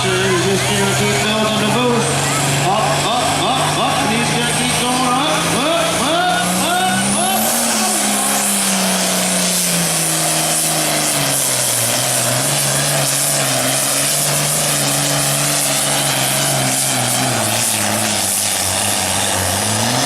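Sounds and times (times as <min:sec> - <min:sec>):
diesel engine under heavy load: 0:00.0 - 0:20.0.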